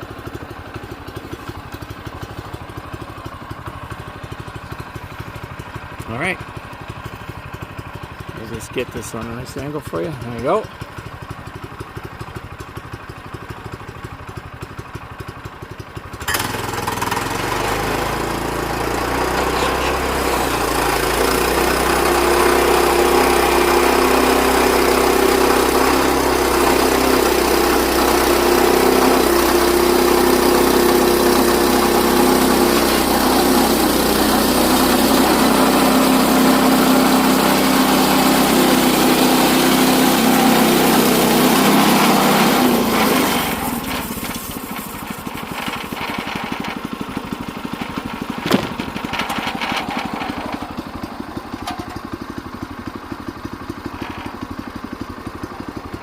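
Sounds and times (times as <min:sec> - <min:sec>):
small gasoline engine: 0:00.0 - 0:56.0.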